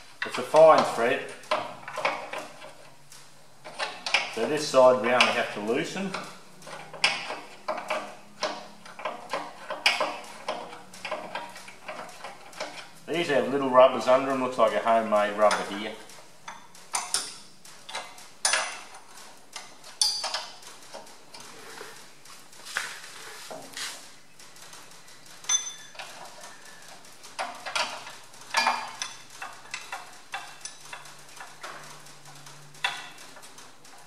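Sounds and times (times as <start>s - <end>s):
metallic clicks of a spanner: 0.2s - 21.5s, 24.4s - 34.0s.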